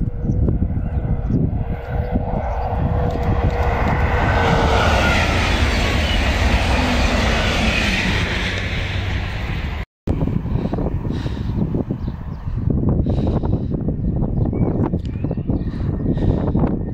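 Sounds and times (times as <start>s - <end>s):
electric train passing at speed: 0.0s - 14.2s.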